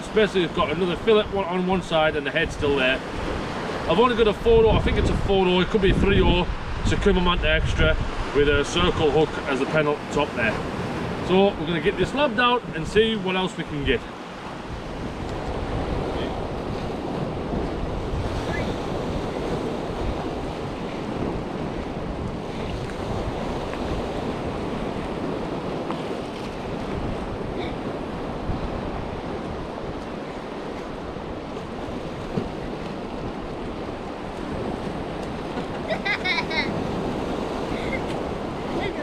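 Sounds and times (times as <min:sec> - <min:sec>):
wind buffeting microphone: 0:00.0 - 0:09.4, 0:10.4 - 0:39.0
surf washing on rocks: 0:00.0 - 0:39.0.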